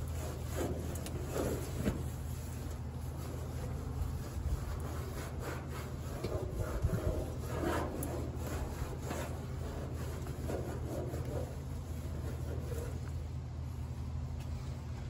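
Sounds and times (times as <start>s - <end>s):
rag rubbing on steel: 0.0s - 13.4s
steady low hum: 0.0s - 15.0s.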